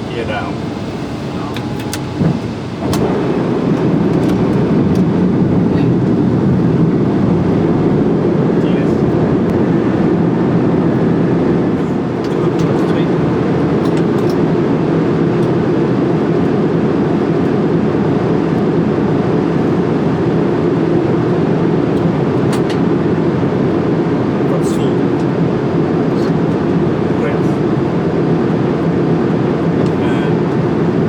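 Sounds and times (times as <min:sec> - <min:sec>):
airflow and engine rumble: 0:00.0 - 0:31.0.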